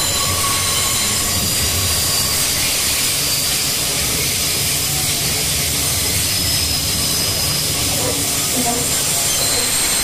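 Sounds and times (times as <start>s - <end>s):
high squealing tones: 0.0s - 5.0s, 5.9s - 10.0s
train wheels rushing on track: 0.0s - 10.0s.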